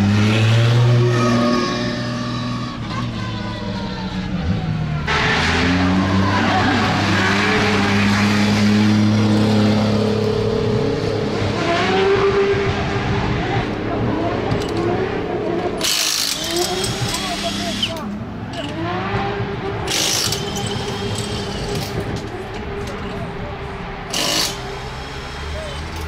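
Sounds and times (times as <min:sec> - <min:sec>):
car engines running: 0:00.0 - 0:26.0
tyres squealing and skidding: 0:00.0 - 0:26.0.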